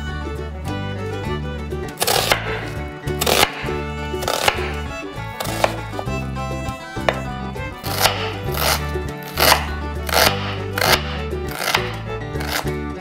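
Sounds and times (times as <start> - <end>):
background music with bass line: 0.0 - 13.0.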